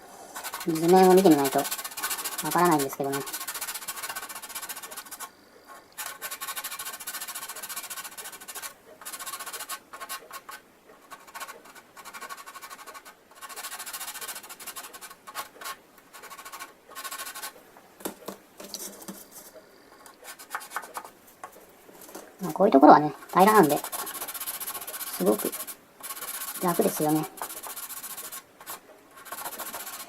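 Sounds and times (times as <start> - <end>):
hand sanding plastic: 0.0 - 30.0.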